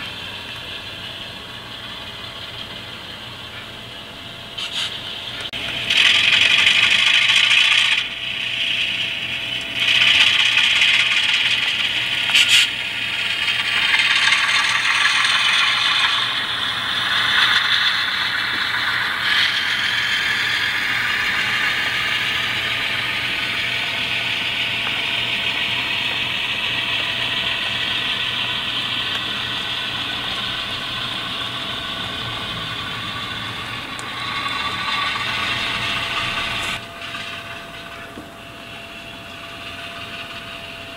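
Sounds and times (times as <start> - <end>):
diesel locomotive sound: 0.0 - 40.9.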